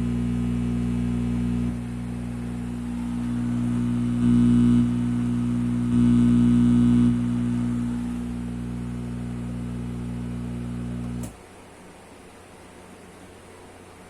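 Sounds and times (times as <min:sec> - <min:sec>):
low buzzing hum: 0:00.0 - 0:11.7.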